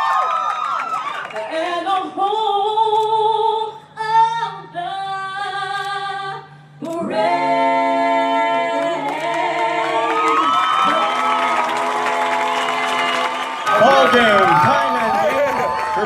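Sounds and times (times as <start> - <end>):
singing with long held notes: 1.4 - 15.3.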